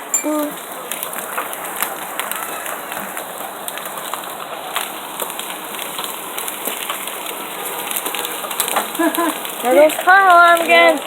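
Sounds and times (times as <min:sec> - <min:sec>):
hailstones striking hard surfaces: 0:00.0 - 0:11.0
heavy rain pouring: 0:00.0 - 0:11.0.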